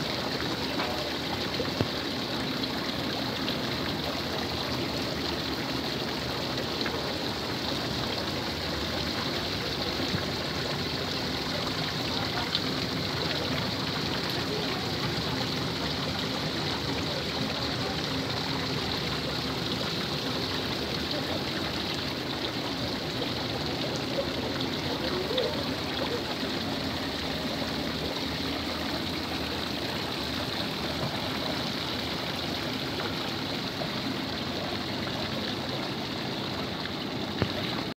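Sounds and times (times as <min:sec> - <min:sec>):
water splashing into pond: 0:00.0 - 0:37.9.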